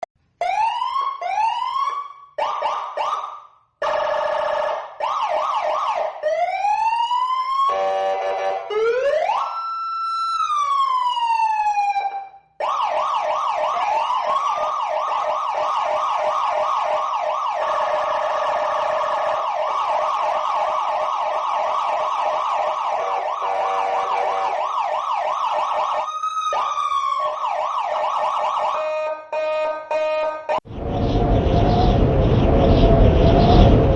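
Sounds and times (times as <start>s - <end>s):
electronic siren wailing and yelping: 0.4s - 33.9s.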